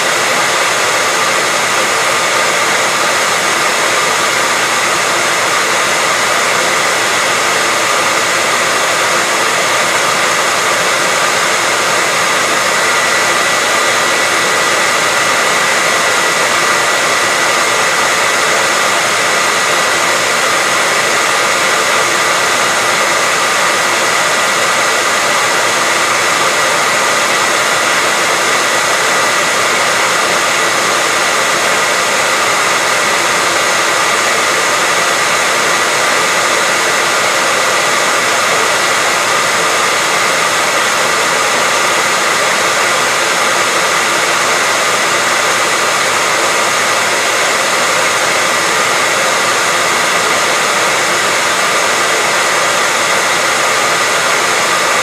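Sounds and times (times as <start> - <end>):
hairdryer running: 0.0 - 55.0.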